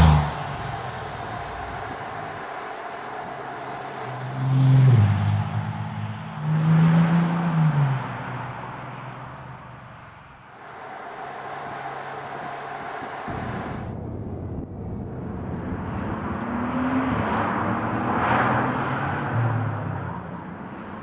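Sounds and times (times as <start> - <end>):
car engine accelerating hard: 0.0 - 14.0, 14.8 - 21.0.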